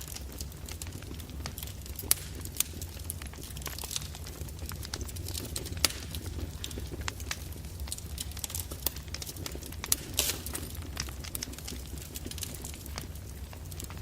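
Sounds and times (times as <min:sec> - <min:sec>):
low rumble of flames: 0:00.0 - 0:14.0
wood fire pops and snaps: 0:00.0 - 0:14.0.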